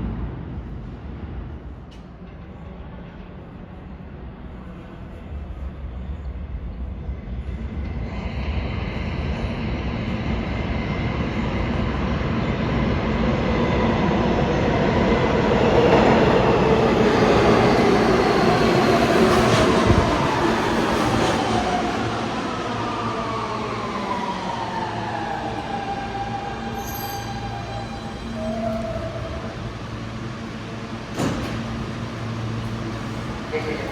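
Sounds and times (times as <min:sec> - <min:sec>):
subway train rumbling: 0:00.0 - 0:33.9.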